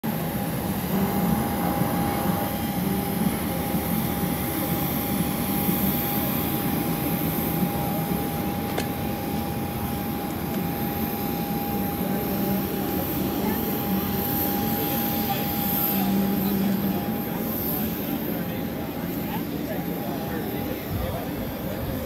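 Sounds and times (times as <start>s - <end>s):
aircraft engine drone: 0.1s - 22.0s.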